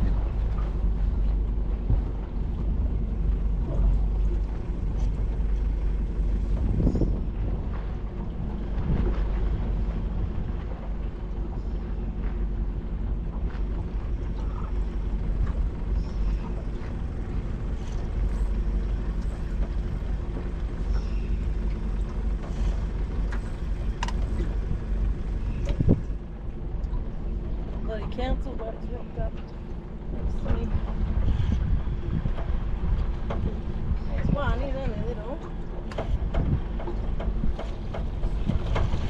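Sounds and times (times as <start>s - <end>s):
outboard motor running: 0.0s - 39.0s
wind rumble on microphone: 0.0s - 39.0s.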